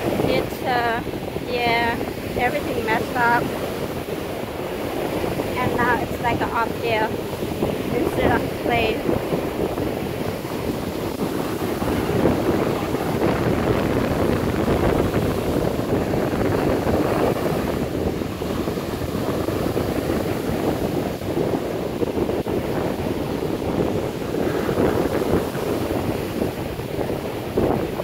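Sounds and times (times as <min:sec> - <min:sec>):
ocean surf breaking on a beach: 0:00.0 - 0:28.0
wind buffeting the microphone: 0:00.0 - 0:28.0.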